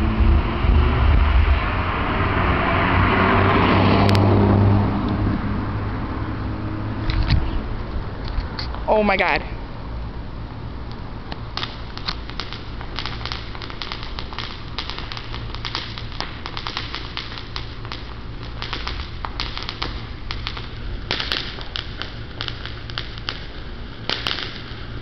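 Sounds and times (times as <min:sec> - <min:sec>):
firework crackling: 0:00.0 - 0:25.0
steady low hum: 0:00.0 - 0:25.0.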